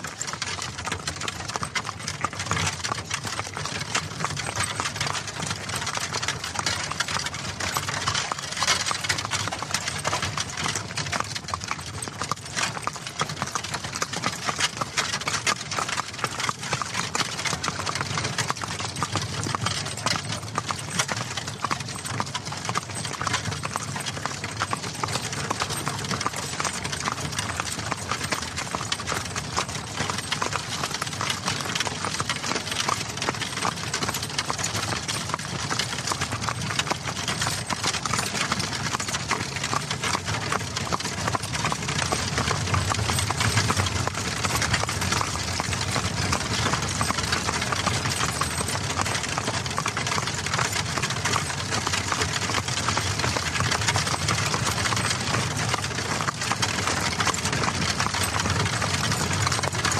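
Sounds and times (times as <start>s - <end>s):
horse hooves clip-clopping: 0.0s - 59.9s
wagon rattling and rumbling: 0.0s - 59.9s.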